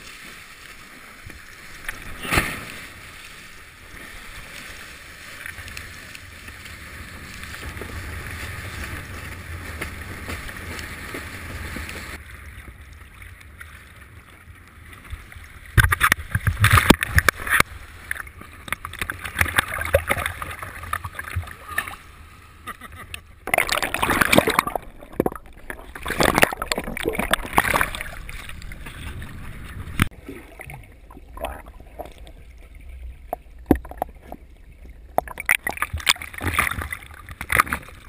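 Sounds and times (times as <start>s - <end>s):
water splashes and slaps: 0.0s - 38.0s.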